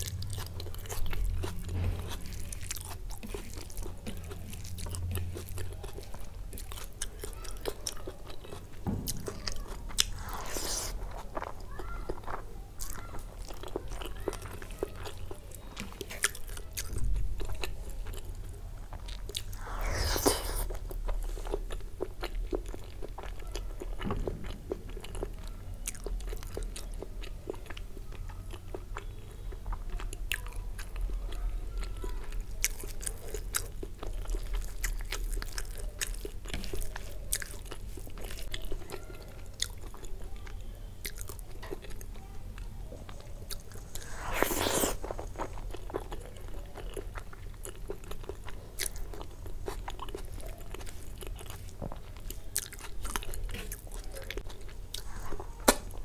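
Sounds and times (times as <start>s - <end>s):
mouth chewing and crunching food: 0.0s - 56.0s.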